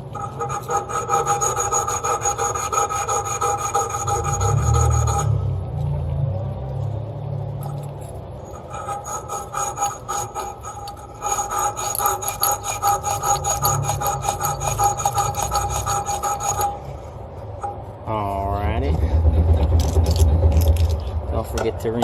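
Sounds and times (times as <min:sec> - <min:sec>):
copper pipe being scrubbed: 0:00.0 - 0:05.4, 0:07.7 - 0:21.2.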